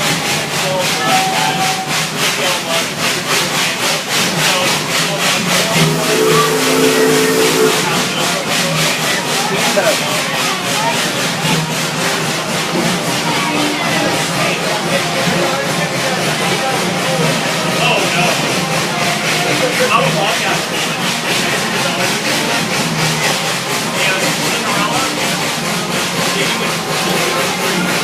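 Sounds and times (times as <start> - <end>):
train running with rhythmic beat: 0.0 - 28.0.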